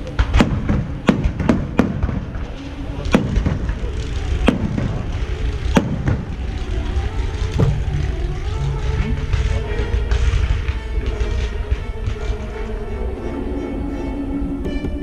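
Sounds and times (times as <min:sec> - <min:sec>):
firework bangs: 0:00.0 - 0:12.8
low rumble: 0:00.0 - 0:15.0
steady musical tones: 0:00.0 - 0:15.0.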